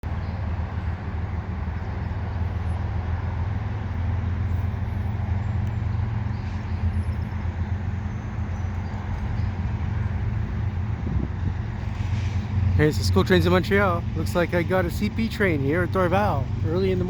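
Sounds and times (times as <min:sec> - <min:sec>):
low engine hum: 0:00.0 - 0:17.0
faint noisy wash: 0:00.5 - 0:17.0.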